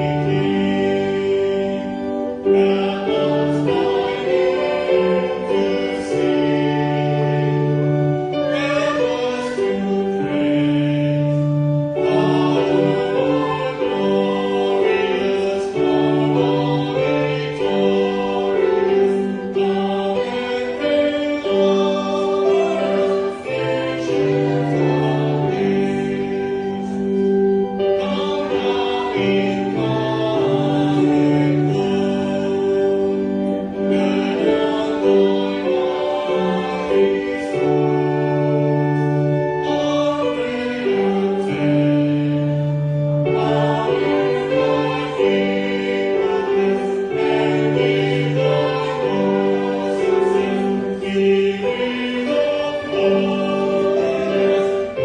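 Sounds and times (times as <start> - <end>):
long held accompaniment chords: 0.0 - 55.0
voices singing a slow hymn: 0.0 - 55.0.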